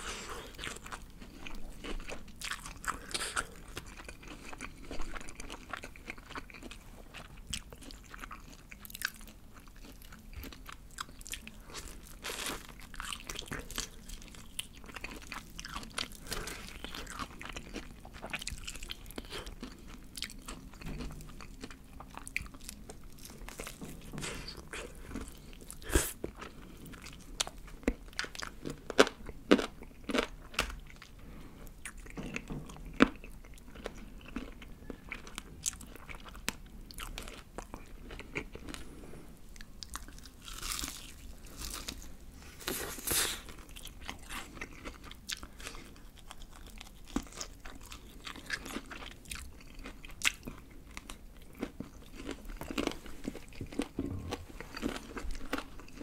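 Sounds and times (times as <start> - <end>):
crunching fried chicken: 0.0 - 31.1, 39.8 - 42.1, 42.7 - 56.0.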